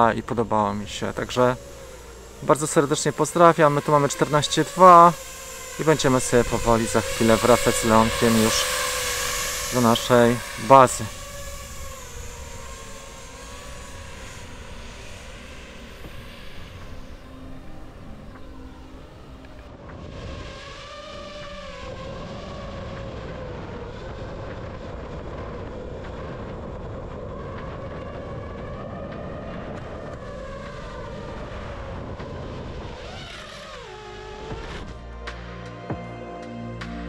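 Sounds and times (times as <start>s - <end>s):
drone propellers whining: 0.0s - 37.0s.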